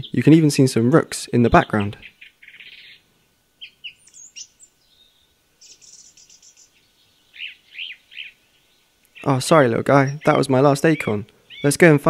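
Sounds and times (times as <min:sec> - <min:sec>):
small birds chirping: 0:00.0 - 0:12.0
bird trill: 0:01.3 - 0:11.9.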